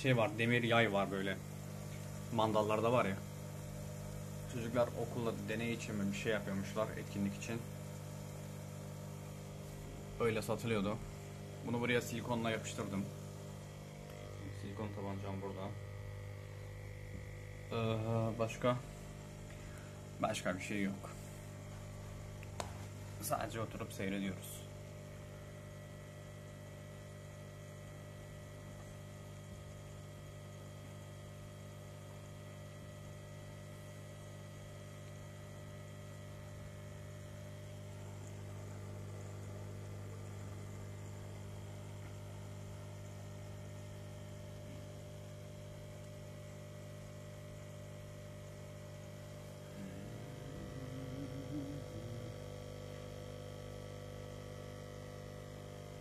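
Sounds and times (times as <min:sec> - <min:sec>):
aquarium air pump humming: 0:00.0 - 0:56.0.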